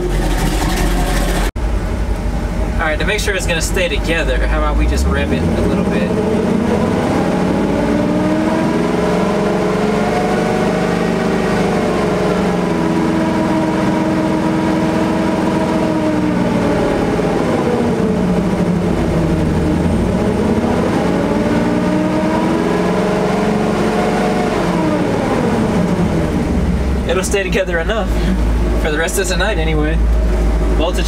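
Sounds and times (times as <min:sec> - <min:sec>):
pickup engine revving: 0:00.0 - 0:01.6, 0:02.2 - 0:31.0.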